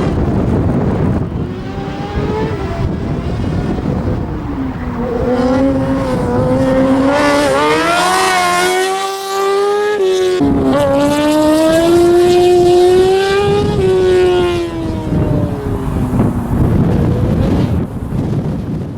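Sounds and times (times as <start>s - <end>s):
racing car engine revving: 0.0s - 18.3s.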